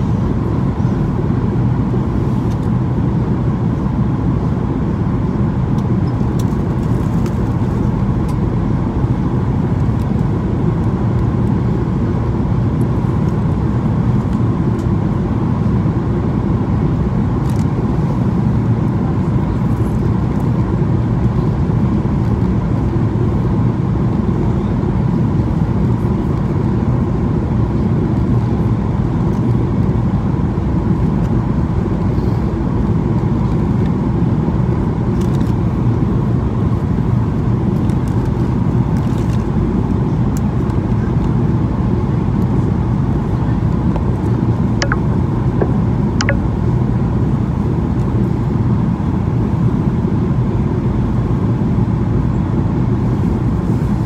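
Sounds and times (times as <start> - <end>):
airplane cabin roar: 0.0 - 54.0.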